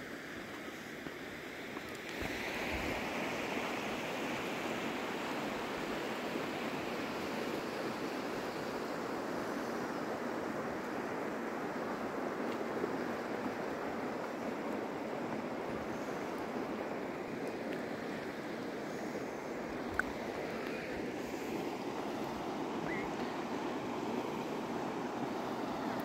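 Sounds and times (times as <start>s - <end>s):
river rushing over stones: 0.1s - 26.0s.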